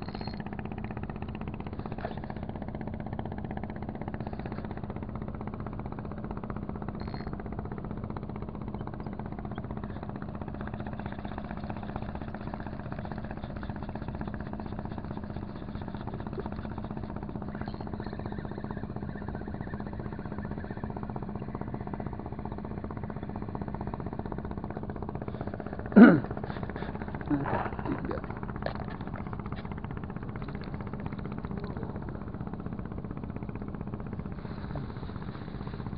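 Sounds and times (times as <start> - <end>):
engine drone: 0.0 - 35.9.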